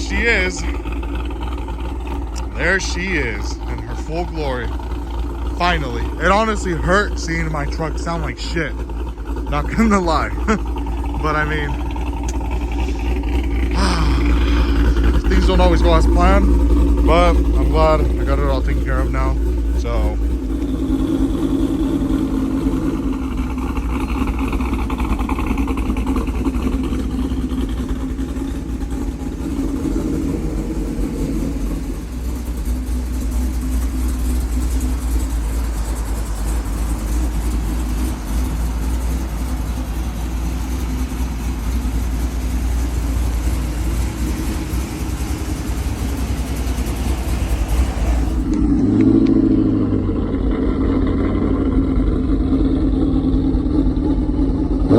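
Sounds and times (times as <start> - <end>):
engine loping idle: 0.0 - 54.9.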